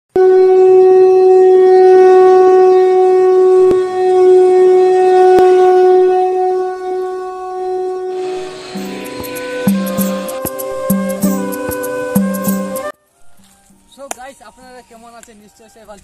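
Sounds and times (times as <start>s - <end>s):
conch shell blown: 0.1s - 13.4s.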